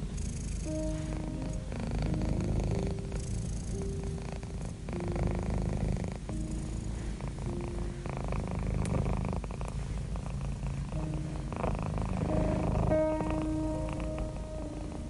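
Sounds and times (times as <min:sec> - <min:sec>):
cat purring: 0:00.0 - 0:15.0
gentle background music: 0:00.0 - 0:15.0.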